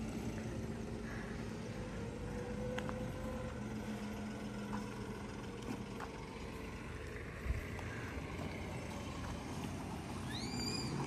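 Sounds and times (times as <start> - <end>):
low outdoor background rumble: 0.0 - 11.0.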